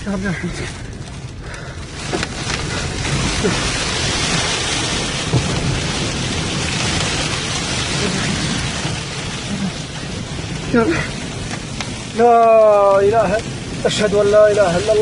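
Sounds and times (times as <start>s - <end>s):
strong wind rushing: 0.0s - 15.0s
wind buffeting microphone: 0.0s - 15.0s.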